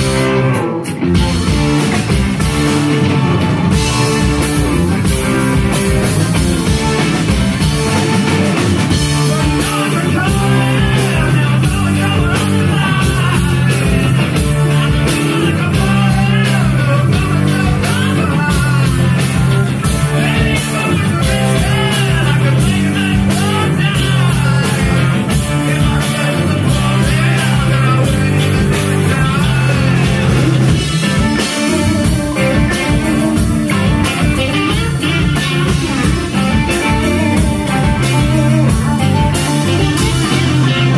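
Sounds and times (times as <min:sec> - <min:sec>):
live rock band playing: 0:00.0 - 0:40.9
wavering lead guitar line: 0:00.0 - 0:40.9.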